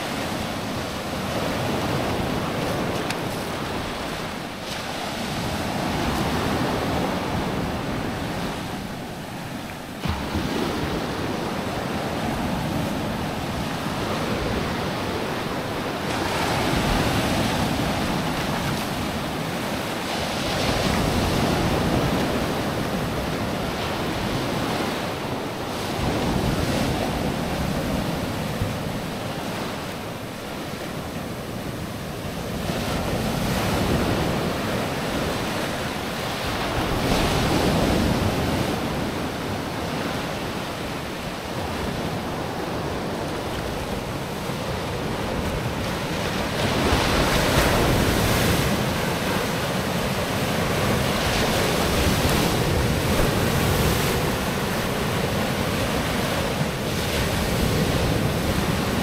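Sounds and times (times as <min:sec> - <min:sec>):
sea waves breaking on beach: 0:00.0 - 0:59.0
wind on microphone: 0:00.0 - 0:59.0.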